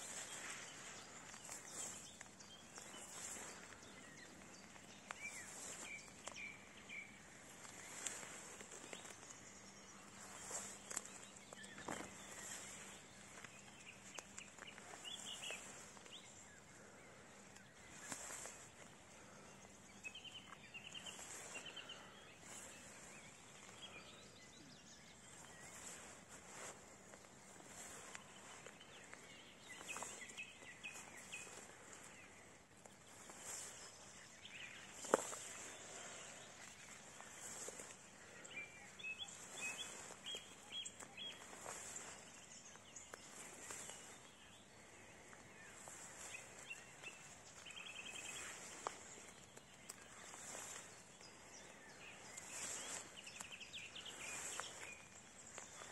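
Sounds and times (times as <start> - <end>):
footsteps through tall grass: 0.0 - 55.9
small birds trilling: 0.0 - 55.9.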